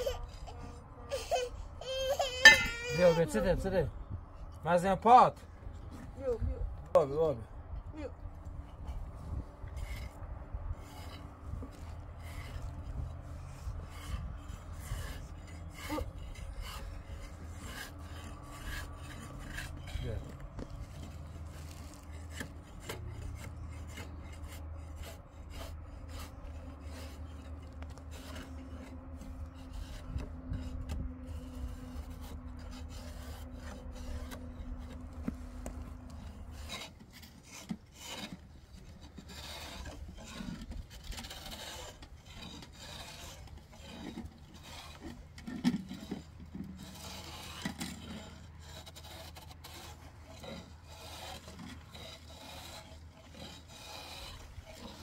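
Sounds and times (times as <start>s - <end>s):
hand tool rasping wood: 0.0s - 7.4s, 8.4s - 55.0s.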